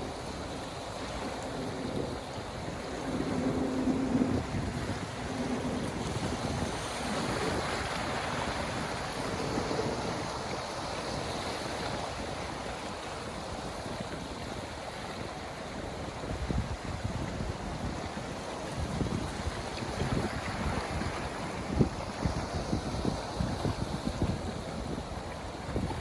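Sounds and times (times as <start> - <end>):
ocean waves washing: 0.0 - 26.0
wind buffeting microphone: 0.0 - 26.0.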